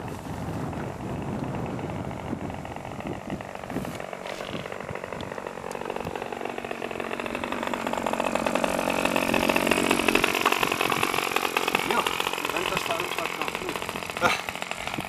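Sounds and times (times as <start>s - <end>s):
model helicopter engine revving: 0.0s - 15.0s.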